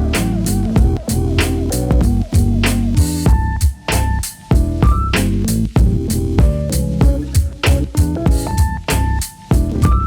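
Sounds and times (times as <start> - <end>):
guitar and bass over drums: 0.0 - 10.0.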